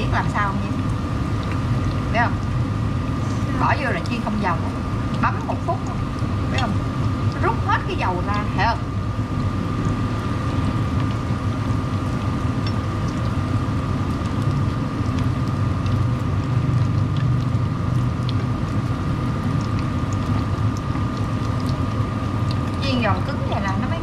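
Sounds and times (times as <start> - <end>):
kitchen appliance fan humming: 0.0 - 24.0.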